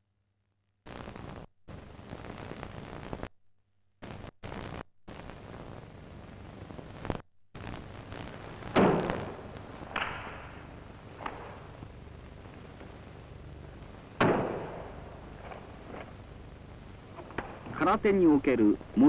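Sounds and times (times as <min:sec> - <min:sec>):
old film soundtrack hiss: 0:00.8 - 0:03.3, 0:04.0 - 0:19.0.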